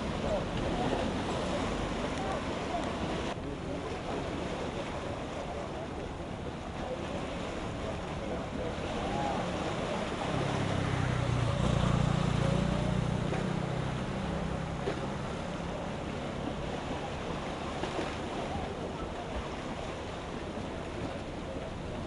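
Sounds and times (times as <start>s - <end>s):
motorboat engine hum: 0.0s - 22.0s
water noise: 0.0s - 22.0s
wind: 0.0s - 22.0s.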